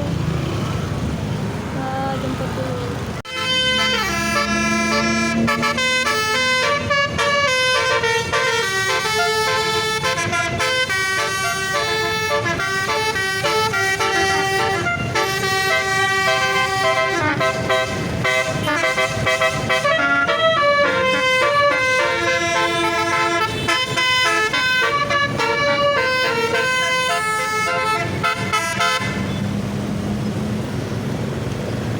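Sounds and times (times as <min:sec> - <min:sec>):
multi-tone bus horn melody: 0:03.2 - 0:29.4.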